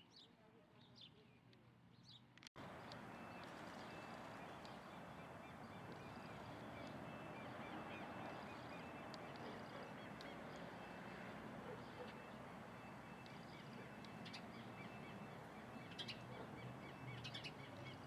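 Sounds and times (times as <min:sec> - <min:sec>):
small birds chirping: 0:02.1 - 0:18.0.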